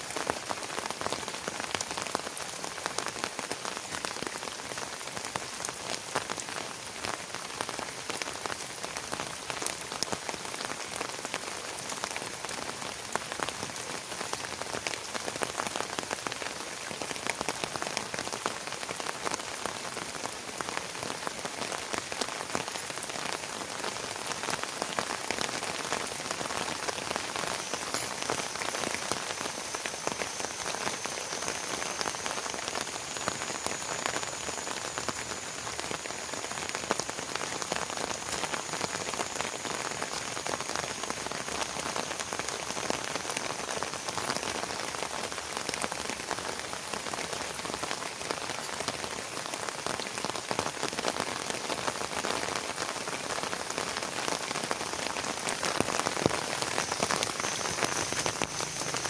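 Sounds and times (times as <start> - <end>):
heavy rain falling: 0.0 - 59.0
raindrops ticking on a surface: 0.0 - 59.0.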